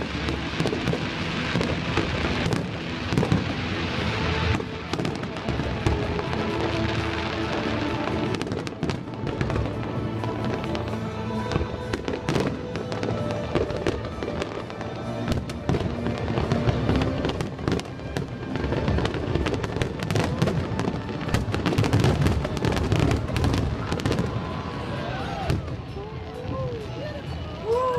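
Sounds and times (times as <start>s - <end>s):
fireworks bangs and crackles: 0.0s - 27.9s
music playing: 0.0s - 27.9s.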